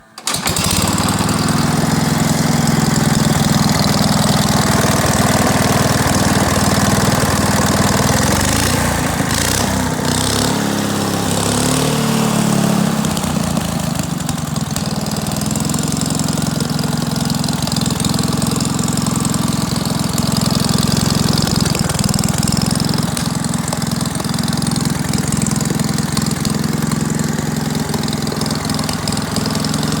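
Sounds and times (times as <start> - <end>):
engine running steadily: 0.3 - 30.0.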